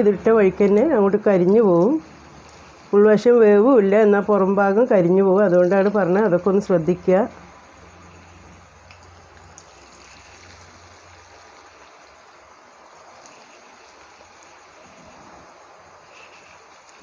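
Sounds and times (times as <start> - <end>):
batter deep-frying in oil: 0.0 - 17.0.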